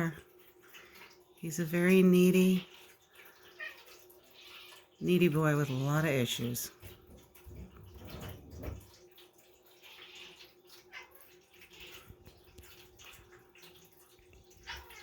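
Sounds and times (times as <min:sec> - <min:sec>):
faint rain patter: 0:00.0 - 0:15.0.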